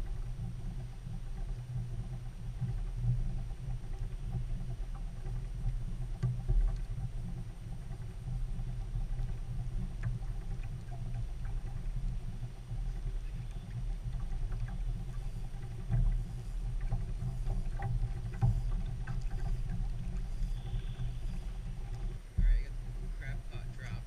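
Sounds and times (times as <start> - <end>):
muffled wind and water rumble: 0.0 - 24.0.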